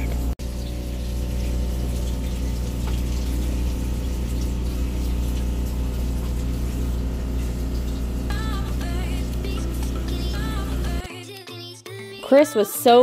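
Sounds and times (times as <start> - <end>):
low machinery hum: 0.0 - 11.1.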